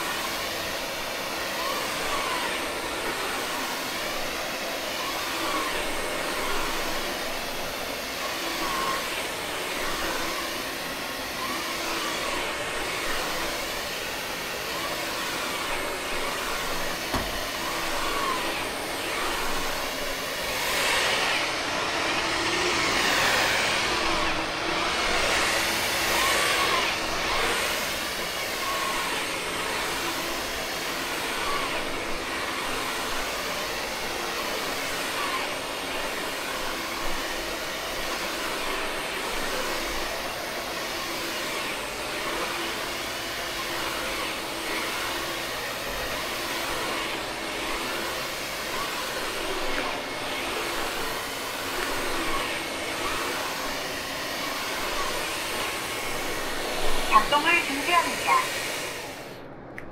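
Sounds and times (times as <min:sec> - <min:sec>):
vacuum cleaner running on rug: 0:00.0 - 0:59.9.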